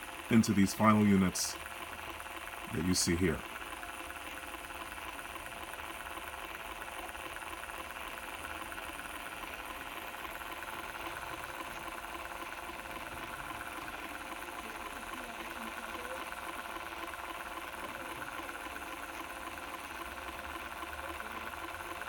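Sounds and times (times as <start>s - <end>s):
stepper motors humming: 0.0s - 22.0s.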